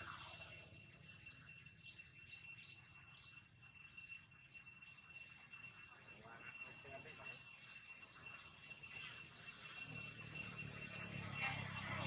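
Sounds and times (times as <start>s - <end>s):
birds chirping: 0.0s - 12.0s
high-pitched insect drone: 0.0s - 12.0s.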